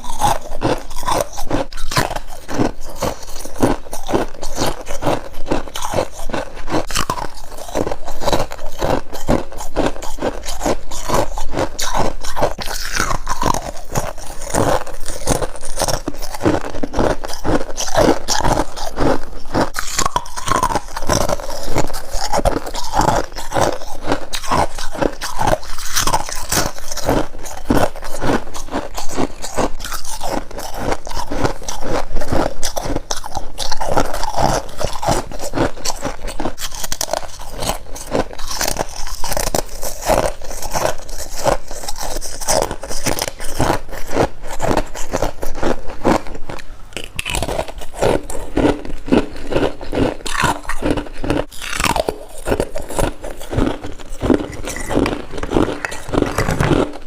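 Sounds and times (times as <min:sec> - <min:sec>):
frost being chewed: 0:00.0 - 0:57.0.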